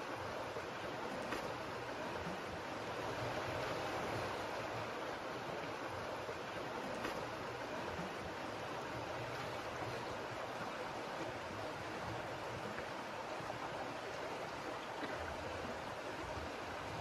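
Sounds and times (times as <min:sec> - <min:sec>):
stream rushing water: 0:00.0 - 0:17.0.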